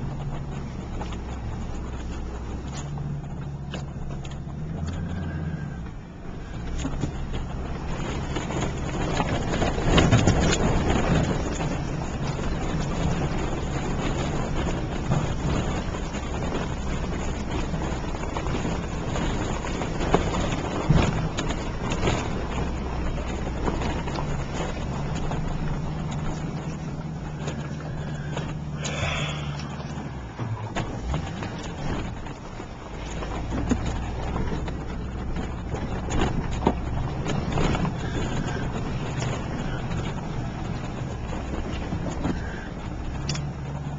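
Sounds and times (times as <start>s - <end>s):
engine and tyre rumble: 0.0s - 43.9s
vehicle jolts and knocks: 0.0s - 43.9s.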